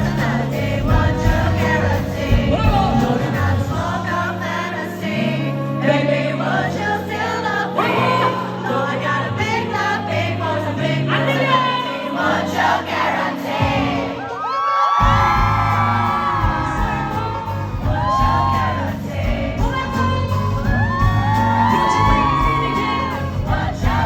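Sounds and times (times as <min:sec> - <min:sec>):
song with voices singing: 0:00.0 - 0:24.0.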